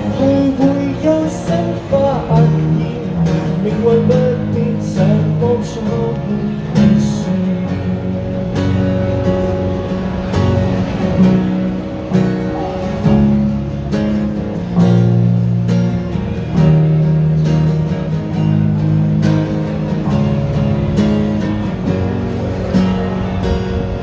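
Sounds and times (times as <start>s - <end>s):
guitar strumming chords: 0.0s - 24.0s.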